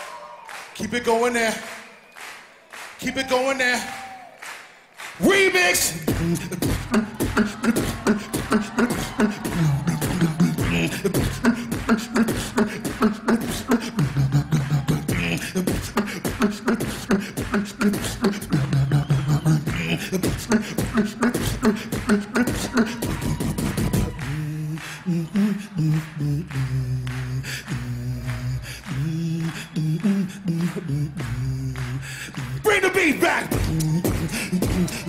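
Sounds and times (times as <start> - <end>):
beatboxing into microphone: 5.2 - 35.0.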